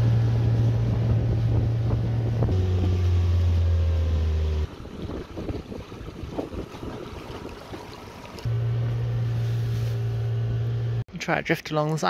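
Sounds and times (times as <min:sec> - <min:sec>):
outboard motor humming: 0:00.0 - 0:11.0.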